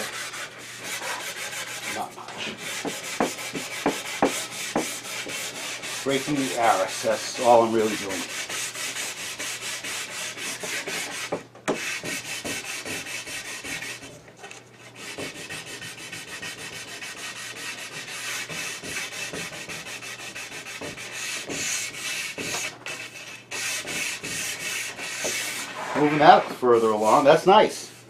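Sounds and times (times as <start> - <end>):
hand sanding wood: 0.0 - 14.1, 14.8 - 28.0.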